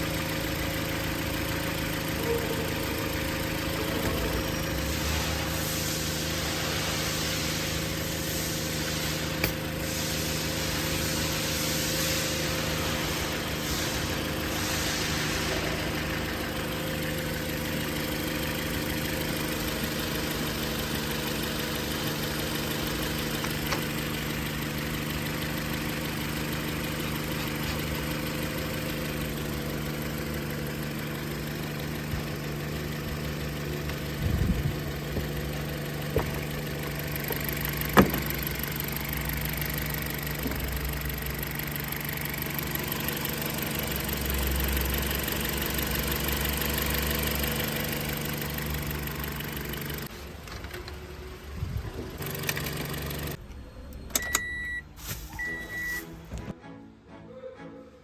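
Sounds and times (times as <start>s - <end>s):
car engine idling: 0.0s - 56.5s.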